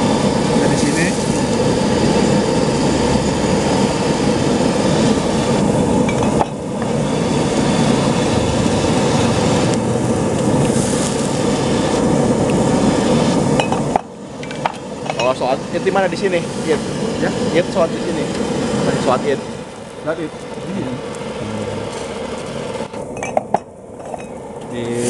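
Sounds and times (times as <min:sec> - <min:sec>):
soup boiling: 0:00.0 - 0:25.0
stove burner roaring: 0:00.0 - 0:25.0.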